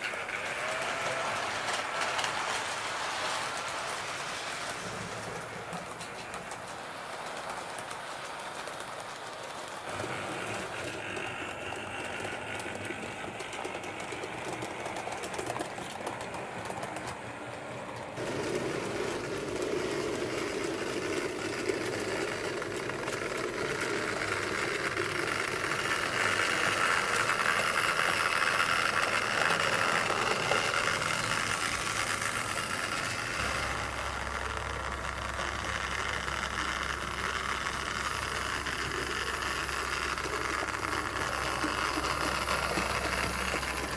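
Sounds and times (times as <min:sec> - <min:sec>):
model train motors whirring: 0:00.0 - 0:43.9
wheels rolling on track: 0:00.0 - 0:43.9.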